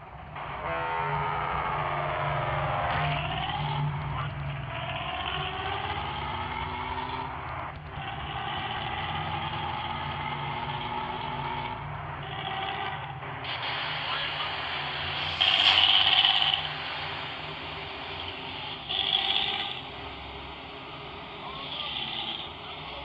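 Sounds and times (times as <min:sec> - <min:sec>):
bus engine growling: 0:00.0 - 0:23.0.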